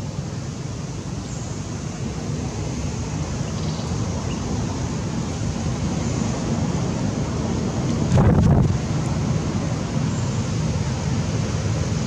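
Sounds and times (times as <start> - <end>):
wind buffeting microphone: 2.0 - 12.0.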